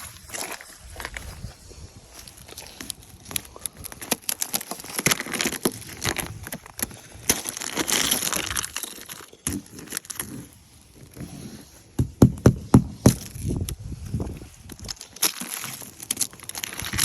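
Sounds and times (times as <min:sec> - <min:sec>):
ice cracking and crunching: 0:00.0 - 0:11.7, 0:13.0 - 0:17.0
gritty scraping of ice: 0:00.0 - 0:12.0, 0:13.0 - 0:17.0.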